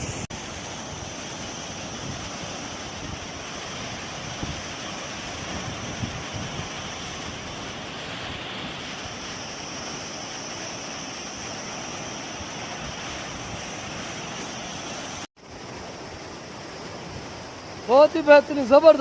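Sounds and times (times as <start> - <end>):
wind on microphone: 0.0 - 15.3
waterfall roaring: 0.0 - 19.0.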